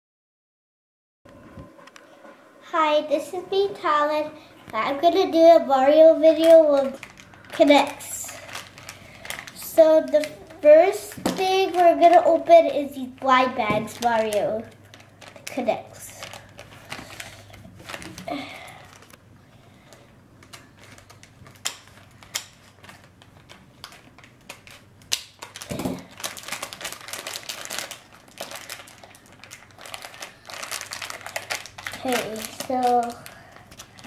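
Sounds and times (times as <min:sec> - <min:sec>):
plastic packet crinkling: 0:05.9 - 0:19.2, 0:19.9 - 0:34.0.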